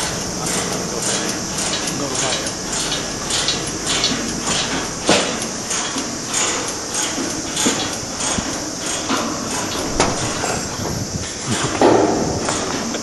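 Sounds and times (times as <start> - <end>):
sharp knocks and clanks: 0.0 - 13.0
steady hiss: 0.0 - 13.0.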